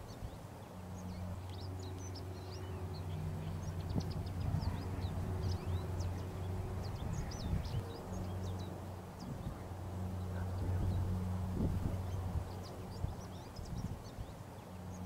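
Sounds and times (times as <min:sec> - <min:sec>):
faint hum: 0:00.0 - 0:15.0
small birds chirping: 0:00.0 - 0:15.0
steady low rumble: 0:00.0 - 0:15.0.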